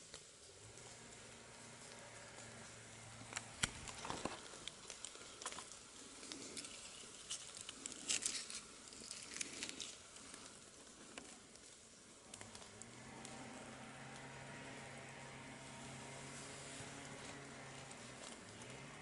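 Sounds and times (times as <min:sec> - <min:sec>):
leaves rustling and crackling: 0:00.0 - 0:19.0.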